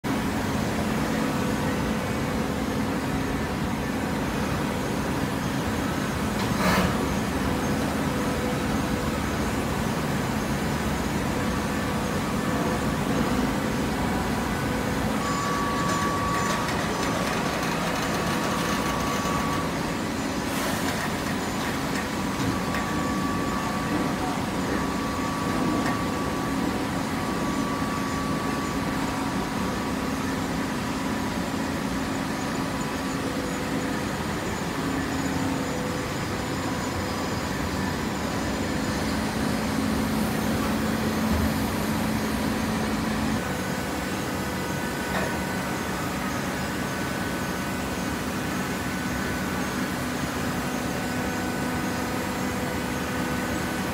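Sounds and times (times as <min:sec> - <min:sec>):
baler machine hum: 0:00.1 - 0:53.9.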